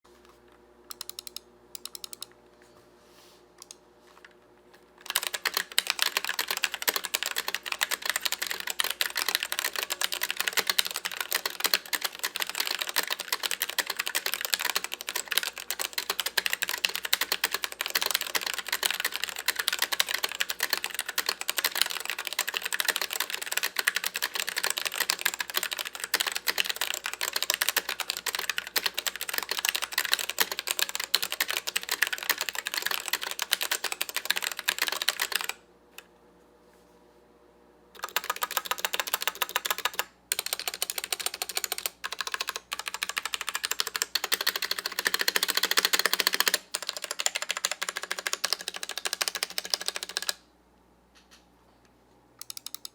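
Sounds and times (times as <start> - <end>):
fast mechanical keyboard typing: 0.9 - 2.3, 5.0 - 35.6, 38.0 - 50.4, 52.4 - 52.9.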